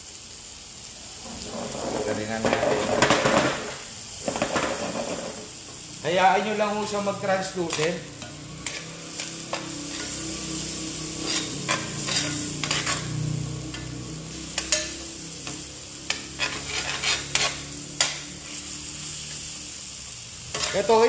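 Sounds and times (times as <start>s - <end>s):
onions sizzling in a skillet: 0.0s - 21.0s
metal spatula scraping a pan: 1.2s - 5.6s, 7.3s - 19.4s, 20.4s - 21.0s.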